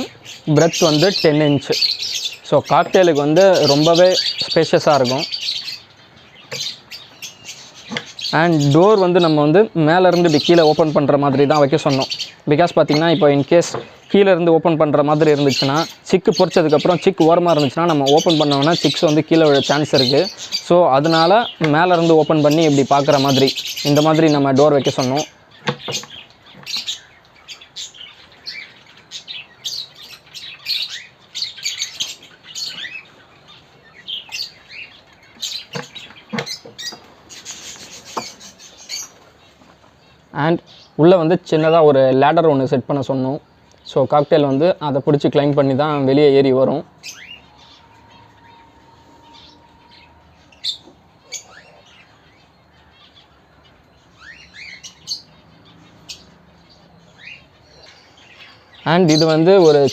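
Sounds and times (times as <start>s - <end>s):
cage birds chirping: 0.0s - 59.9s.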